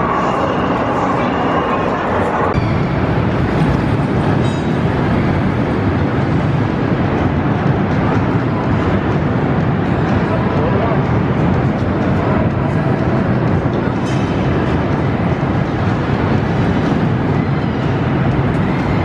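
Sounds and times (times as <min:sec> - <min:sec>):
roller coaster wheels rumbling on rail: 0:00.0 - 0:19.0.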